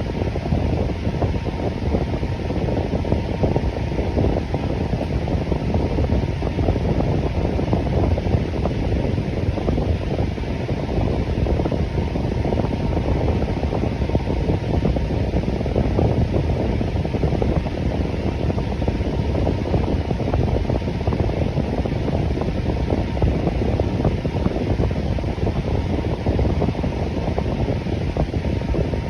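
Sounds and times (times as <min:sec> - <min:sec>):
electric fan running: 0:00.0 - 0:29.0.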